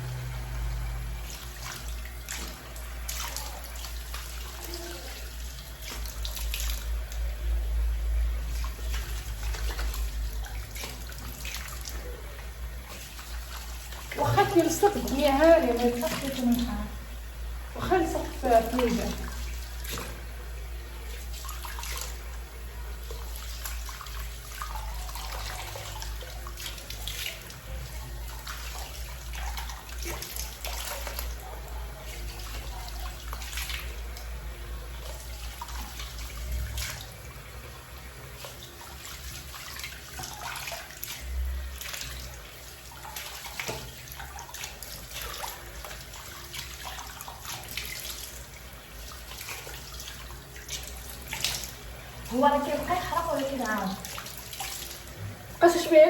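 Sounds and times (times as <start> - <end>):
water splashing on face: 0.0 - 17.1, 17.7 - 56.0
water tap running into sink: 0.0 - 56.0.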